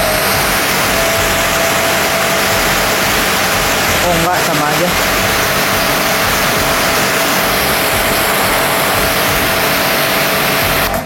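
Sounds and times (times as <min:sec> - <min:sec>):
faint machine whine: 0:00.0 - 0:11.0
pressure washer water jet hiss: 0:00.0 - 0:11.0.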